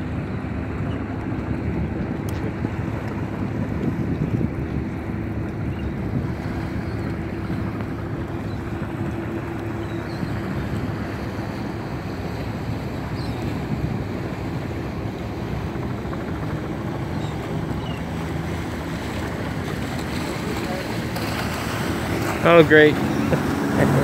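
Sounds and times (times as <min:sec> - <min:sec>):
boat engines droning: 0:00.0 - 0:24.0
wind rumble on microphone: 0:00.0 - 0:24.0.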